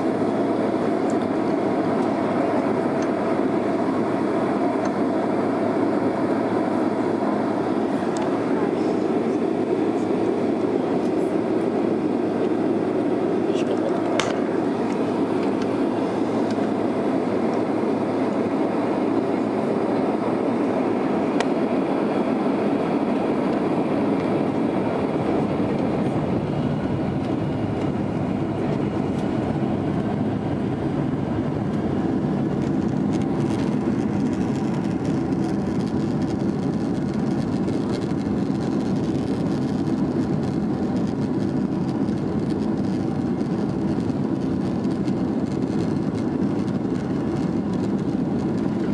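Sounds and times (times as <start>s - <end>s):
faint steady whine: 0.0s - 48.9s
jet engines rumbling in cabin: 0.0s - 48.9s.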